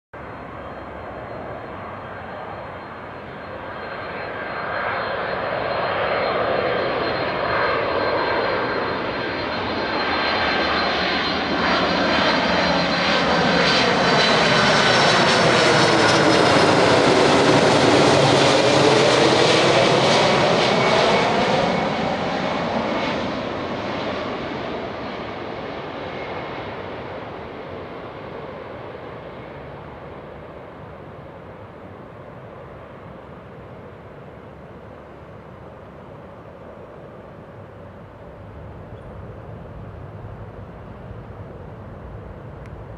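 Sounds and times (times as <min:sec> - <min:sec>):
high engine whine: 0:00.2 - 0:42.9
jet engines roaring: 0:00.2 - 0:42.9.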